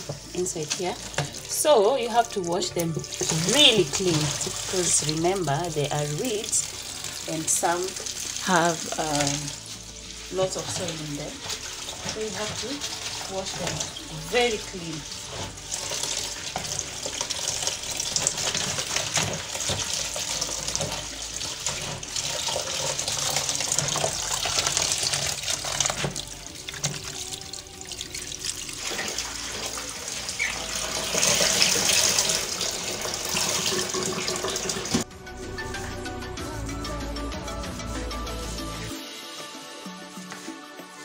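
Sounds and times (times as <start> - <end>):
hands rinsing leafy greens: 0.0 - 35.0
background music: 0.0 - 41.0.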